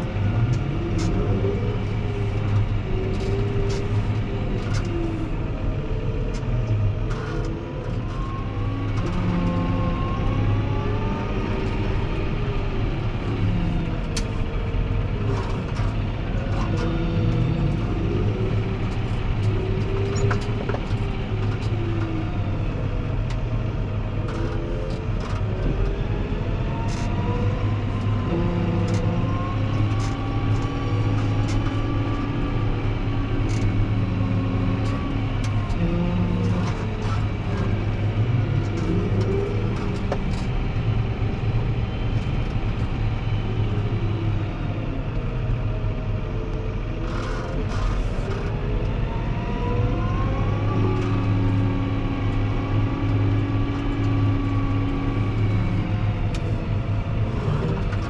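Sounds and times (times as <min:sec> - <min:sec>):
tractor diesel engine running: 0:00.0 - 0:58.0
tractor whine: 0:00.0 - 0:58.0.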